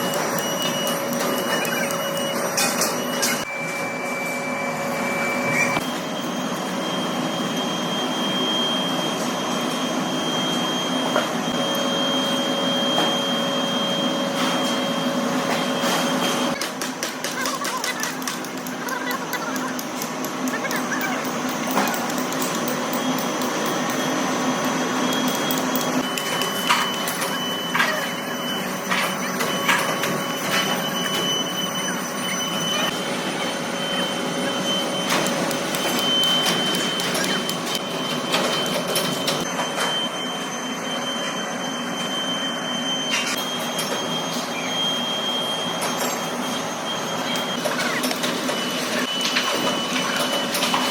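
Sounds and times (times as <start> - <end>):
heavy machinery running with whine: 0.0 - 50.9.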